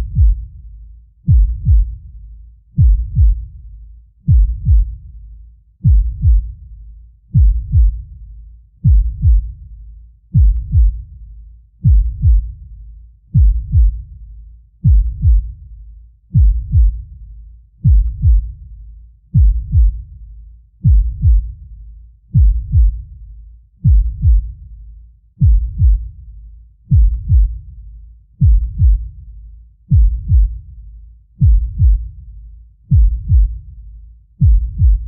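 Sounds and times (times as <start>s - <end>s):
heartbeat lub-dub: 0.0s - 35.0s.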